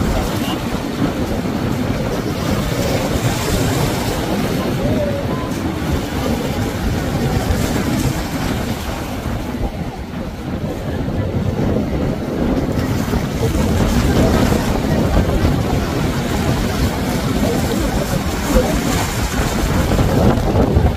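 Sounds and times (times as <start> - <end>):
boat engine low rumble: 0.0 - 20.9
bow wave and wake rushing: 0.0 - 20.9
wind buffeting microphone: 0.0 - 20.9.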